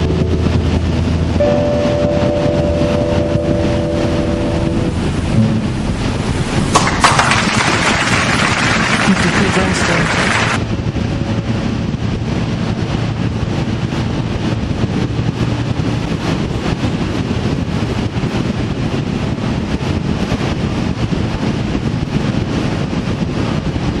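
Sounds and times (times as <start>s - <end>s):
road noise: 0.0s - 23.7s
vehicle engine rumble: 0.0s - 24.0s
wind buffeting microphone: 0.0s - 24.0s.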